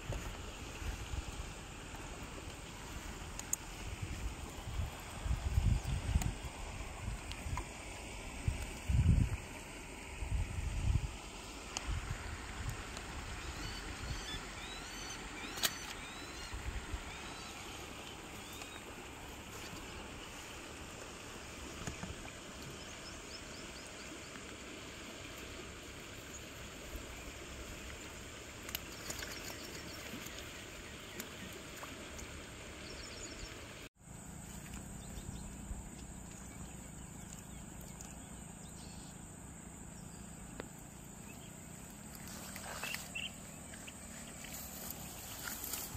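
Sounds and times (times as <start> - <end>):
insect drone: 0.0 - 30.9, 34.0 - 45.9
steady background hiss: 0.0 - 45.9.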